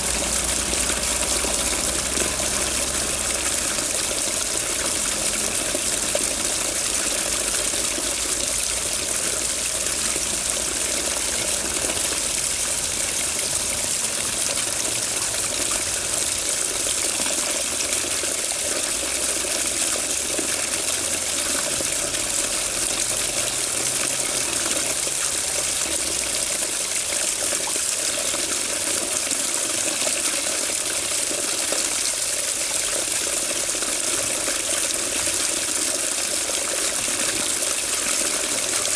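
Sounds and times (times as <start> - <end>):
running water gushing: 0.0 - 38.9.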